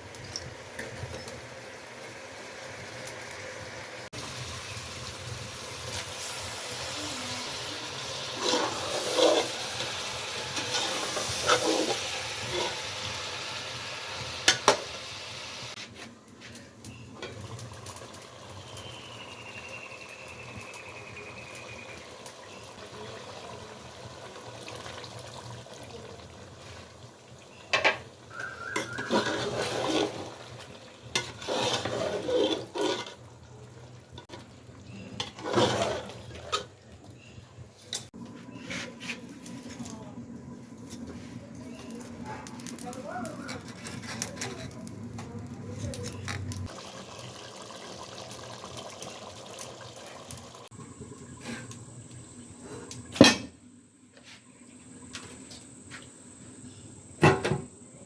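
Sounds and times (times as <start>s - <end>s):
liquid sizzling in a pot: 0.0s - 16.0s, 16.9s - 37.4s, 41.6s - 57.8s.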